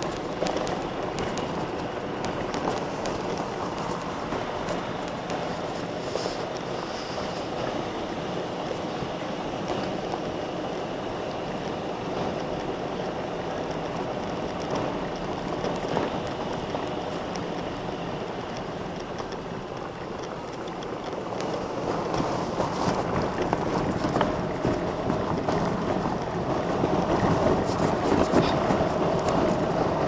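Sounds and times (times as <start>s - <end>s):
gravel clicking under wheels: 0.0s - 30.0s
tyres rolling on gravel: 0.0s - 30.0s.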